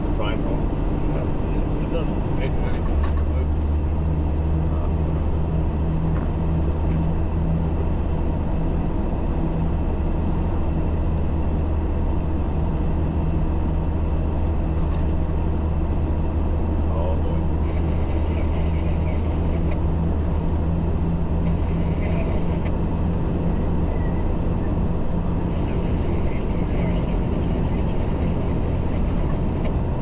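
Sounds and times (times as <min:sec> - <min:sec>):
truck diesel engine droning: 0:00.0 - 0:30.0
tyre and road noise: 0:00.0 - 0:30.0.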